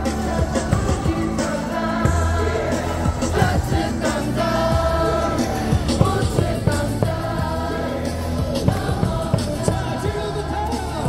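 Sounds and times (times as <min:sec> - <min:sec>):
cheer song over stadium speakers: 0:00.0 - 0:11.0
crowd singing along: 0:00.0 - 0:11.0.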